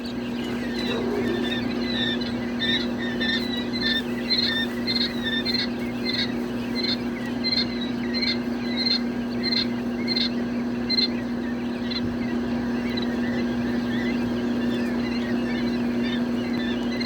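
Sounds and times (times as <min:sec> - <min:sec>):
chicks peeping: 0:00.0 - 0:17.0
steady low hum: 0:00.0 - 0:17.0.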